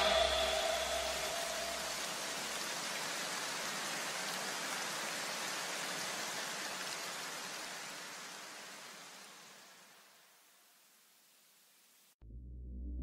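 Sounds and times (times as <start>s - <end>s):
steady hiss like rain: 0.0s - 12.2s.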